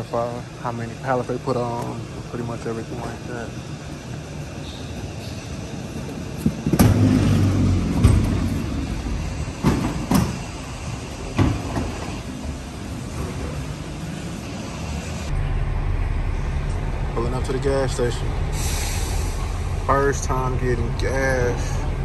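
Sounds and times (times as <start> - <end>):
pallet jack wheels rumbling: 1.0 - 22.0.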